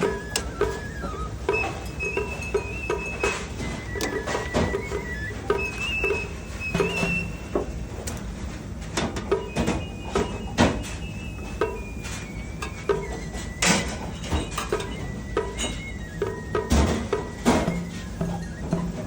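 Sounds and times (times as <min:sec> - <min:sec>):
kitchen knocks and taps: 0:00.0 - 0:07.7, 0:09.0 - 0:19.0
quiet background music: 0:00.0 - 0:19.0.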